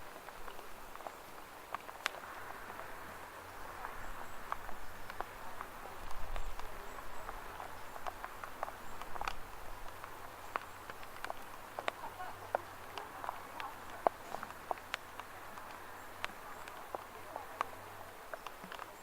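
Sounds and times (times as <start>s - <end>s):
rain falling: 0.0s - 19.0s
raindrops ticking on surfaces: 0.0s - 19.0s.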